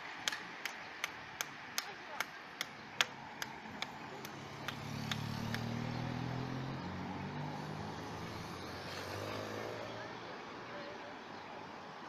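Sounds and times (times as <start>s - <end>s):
cars driving past slowly: 0.0s - 12.0s.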